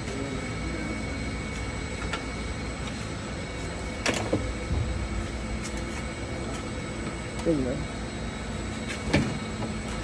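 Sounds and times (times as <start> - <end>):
workshop hum: 0.0 - 10.0.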